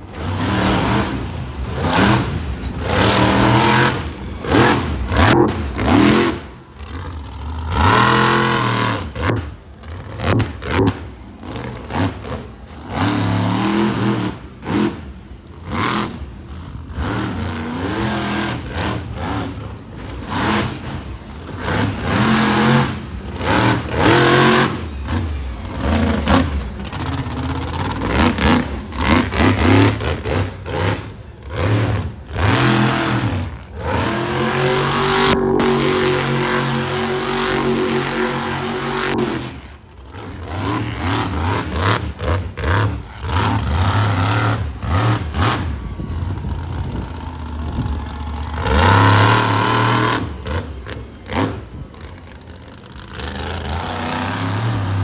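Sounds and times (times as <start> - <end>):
truck engine revving hard: 0.0 - 55.0.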